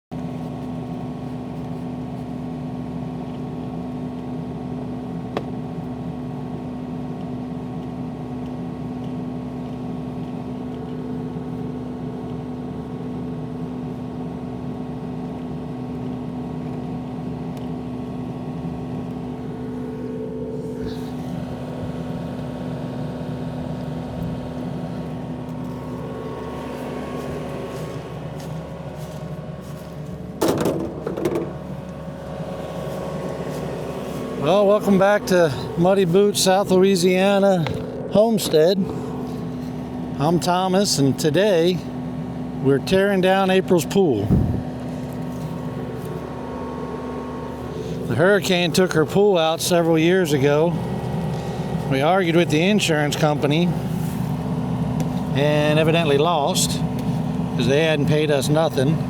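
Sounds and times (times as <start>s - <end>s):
diesel engine running: 0.1s - 59.0s.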